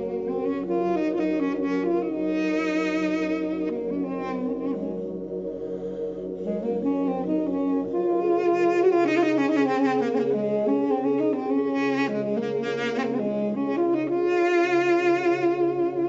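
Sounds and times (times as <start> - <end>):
duduk slow melody: 0.0 - 16.0
steady low drone: 0.0 - 16.0.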